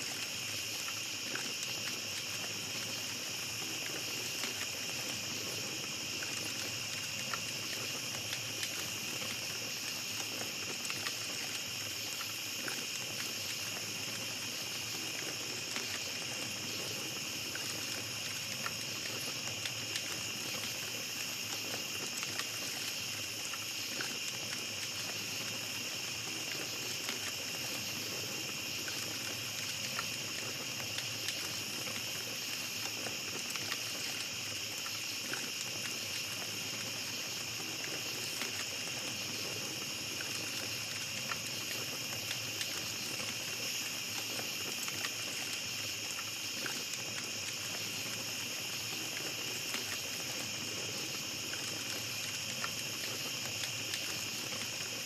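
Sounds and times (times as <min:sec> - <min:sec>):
campfire crackling: 0:00.0 - 0:55.0
night insects chorus: 0:00.0 - 0:55.0.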